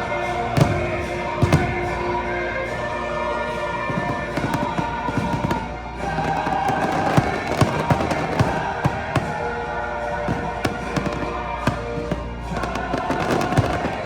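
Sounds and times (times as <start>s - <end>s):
orchestral music: 0.0s - 14.0s
fireworks bangs and booms: 0.3s - 14.0s.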